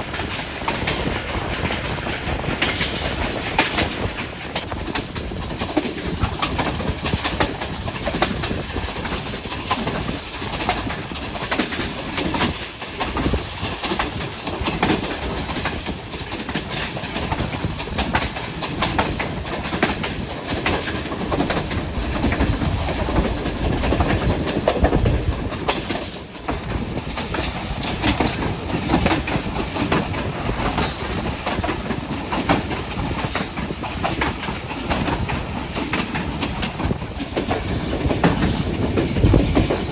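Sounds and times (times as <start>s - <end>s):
train rumble: 0.0s - 39.9s
train wheels clattering over rail joints: 0.0s - 39.9s.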